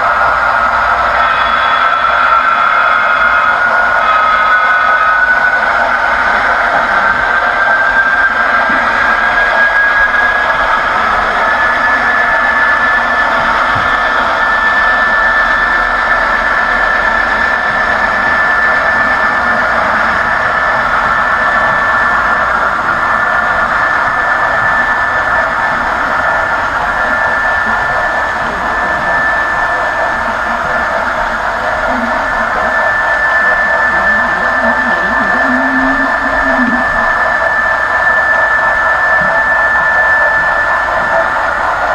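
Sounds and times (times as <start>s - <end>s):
model train motor whine: 0.0s - 41.9s.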